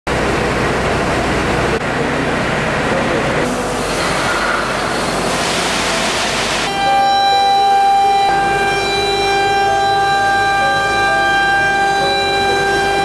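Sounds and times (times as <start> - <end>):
factory machinery running: 0.1 - 13.0.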